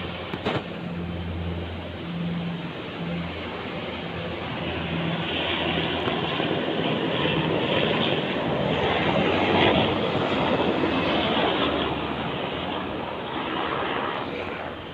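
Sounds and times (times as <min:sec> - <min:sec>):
helicopter rotor and engine: 0:00.0 - 0:14.9.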